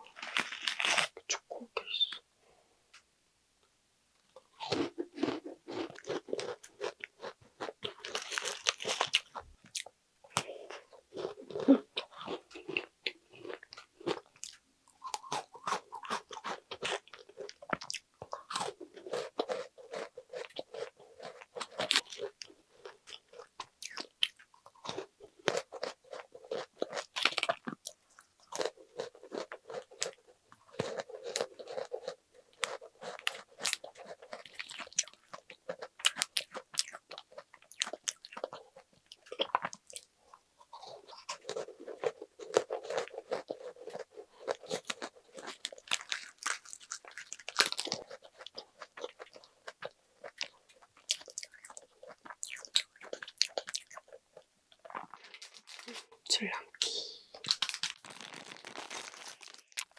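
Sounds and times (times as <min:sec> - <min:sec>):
crunching and chewing cookie: 0:00.0 - 0:01.5, 0:04.2 - 0:56.2, 0:57.3 - 0:59.9.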